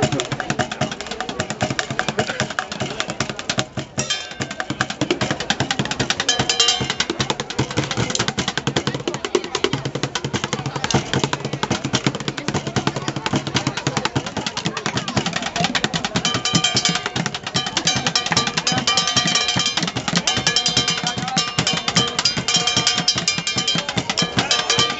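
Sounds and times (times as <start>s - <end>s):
drumming on plastic buckets: 0.0s - 24.9s.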